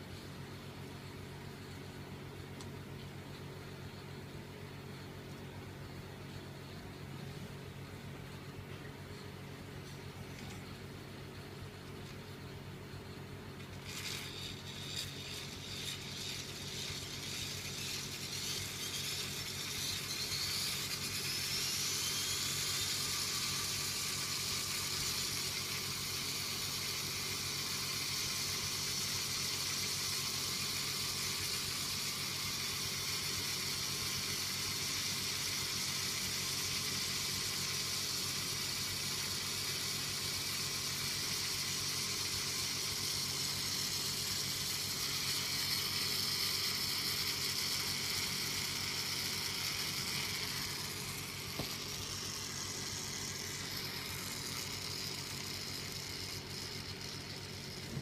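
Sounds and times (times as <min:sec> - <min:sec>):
fan motor whirring: 0:00.0 - 0:58.0.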